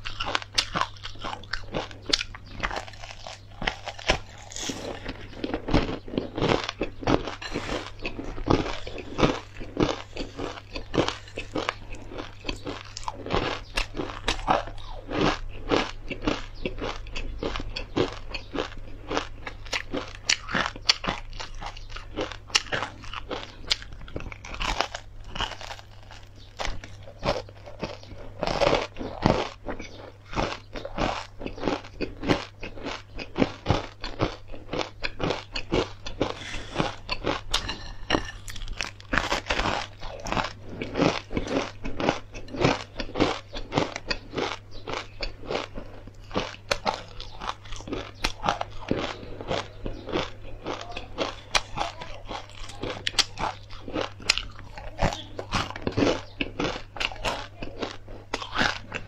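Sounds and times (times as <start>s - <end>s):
person crunching seeds: 0.0s - 59.0s.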